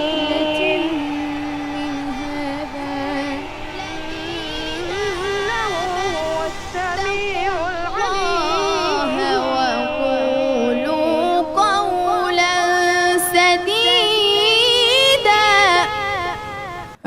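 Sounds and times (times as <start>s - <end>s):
layered singing voices: 0.0s - 17.0s.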